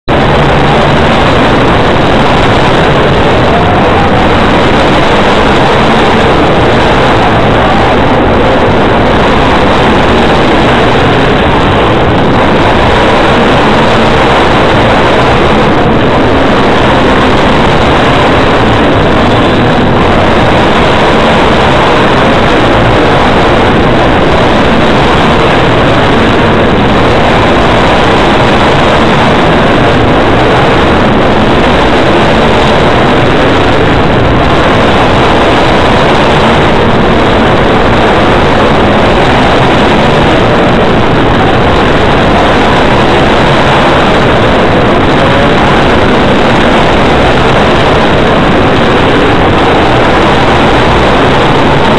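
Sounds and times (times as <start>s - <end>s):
racing engines din: 0.0s - 51.9s.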